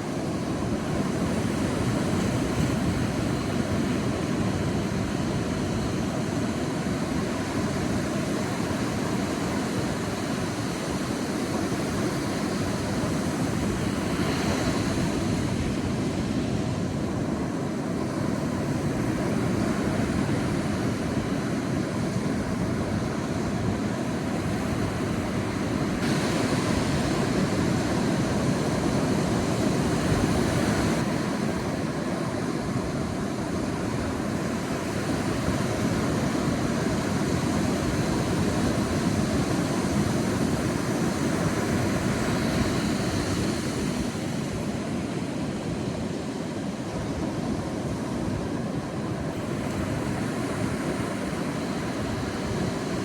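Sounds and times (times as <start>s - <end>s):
sea surf washing on beach: 0.0s - 53.0s.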